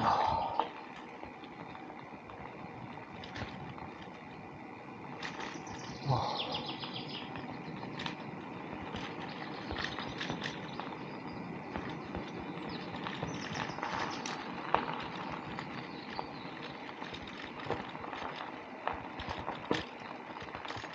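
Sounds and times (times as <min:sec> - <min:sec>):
bicycle rolling on rough path: 0:00.0 - 0:20.9.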